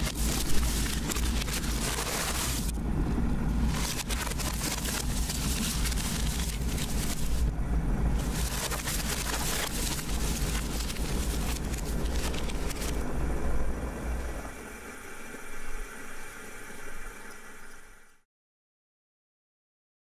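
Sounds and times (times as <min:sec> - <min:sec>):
electric kettle boiling: 0:00.0 - 0:18.2.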